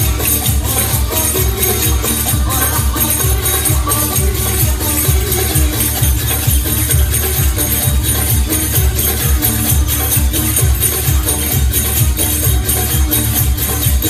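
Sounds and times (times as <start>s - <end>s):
jingling percussion: 0.0s - 14.0s
steady drum beat: 0.0s - 14.0s
world fusion dance music: 0.0s - 14.0s.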